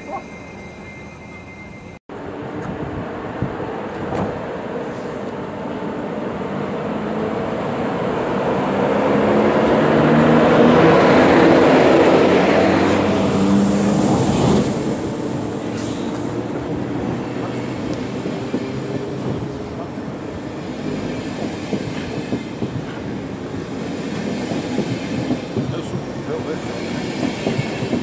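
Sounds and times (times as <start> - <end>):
electric locomotive humming: 0.0 - 28.0
train coaches rumbling past: 0.0 - 28.0.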